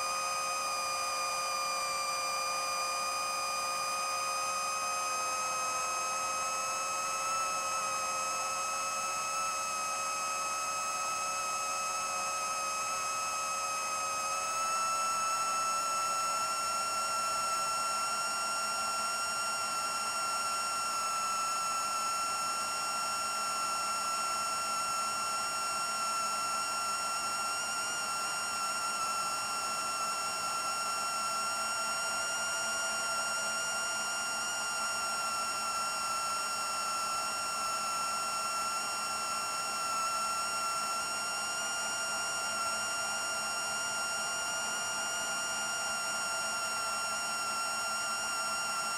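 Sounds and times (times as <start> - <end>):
drone motors high whine: 0.0 - 48.9.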